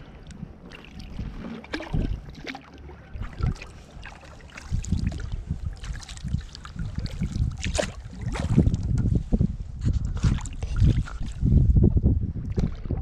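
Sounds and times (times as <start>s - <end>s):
wind buffeting microphone: 0.0s - 2.4s, 3.1s - 13.0s
paddle splashing water: 0.1s - 11.5s.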